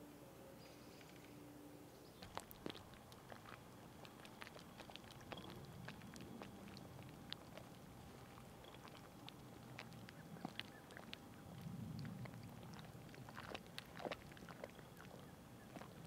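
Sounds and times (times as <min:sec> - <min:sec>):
faint water lapping at shore: 0:02.1 - 0:16.0.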